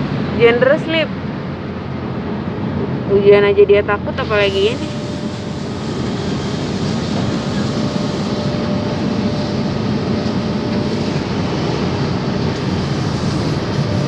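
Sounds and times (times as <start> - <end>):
car wash water and machinery: 0.0 - 14.0.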